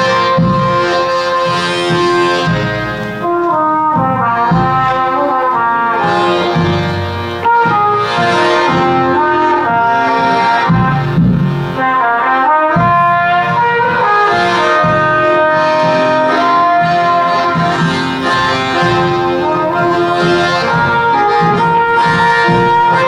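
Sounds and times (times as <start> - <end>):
accordion chords: 0.0 - 23.0
trumpet melody: 0.0 - 23.0.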